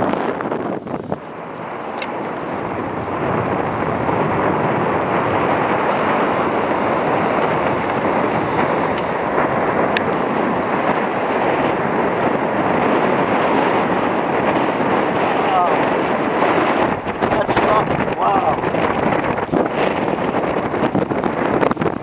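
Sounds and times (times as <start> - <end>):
heavy surf breaking: 0.0 - 22.0
strong wind on microphone: 0.0 - 22.0.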